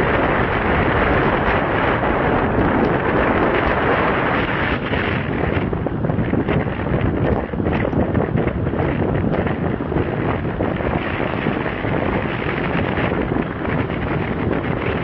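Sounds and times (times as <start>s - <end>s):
road noise: 0.0s - 14.6s
wind buffeting microphone: 0.0s - 15.0s.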